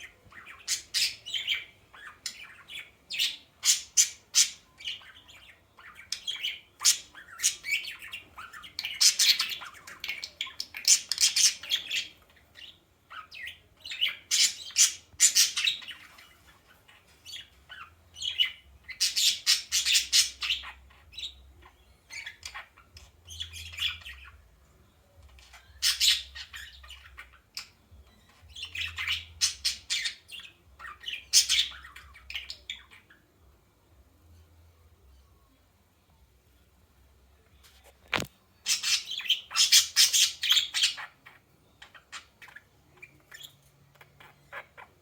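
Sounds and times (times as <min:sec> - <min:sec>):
bird squawking and chirping: 0:00.0 - 0:24.4, 0:25.2 - 0:33.3, 0:38.6 - 0:45.0.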